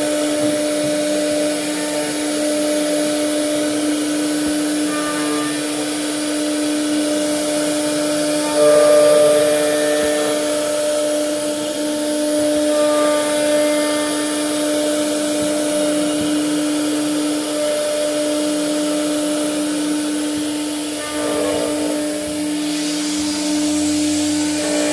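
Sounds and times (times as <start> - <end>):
router spindle cutting wood: 0.0 - 24.9.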